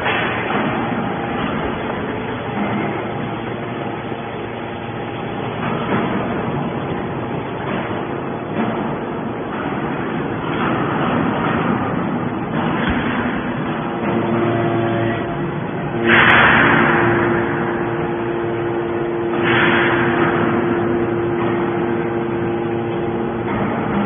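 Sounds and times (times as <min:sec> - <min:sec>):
hydraulic baler droning: 0:00.0 - 0:24.0.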